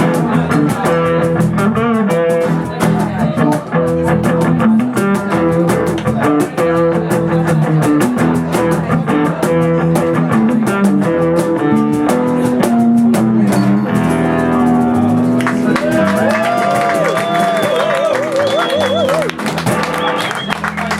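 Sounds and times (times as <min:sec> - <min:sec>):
drum kit with cymbal beat: 0:00.0 - 0:19.9
bass guitar: 0:00.0 - 0:20.9
strummed guitar chords: 0:00.0 - 0:20.9.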